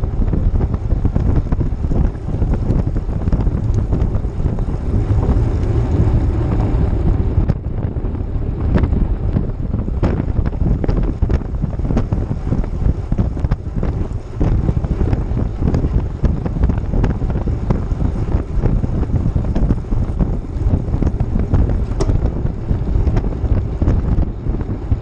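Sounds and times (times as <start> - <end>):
tyre noise on road: 0.0 - 25.0
wind buffeting microphone: 0.0 - 25.0.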